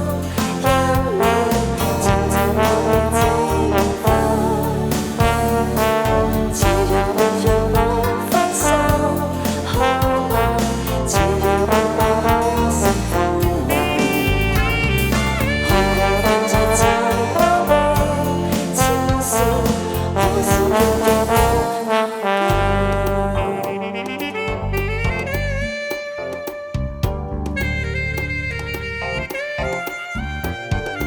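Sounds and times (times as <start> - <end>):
instrumental pop music: 0.0 - 31.0.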